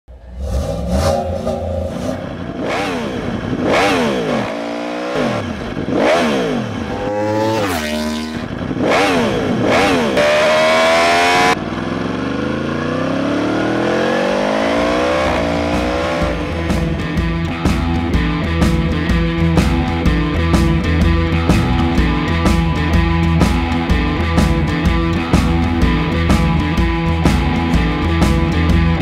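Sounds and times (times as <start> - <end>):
high-revving engine: 0.1 - 29.0.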